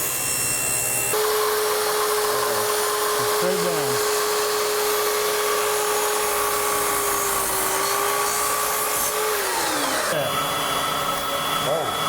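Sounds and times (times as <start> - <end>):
power saw whining: 0.0 - 12.0.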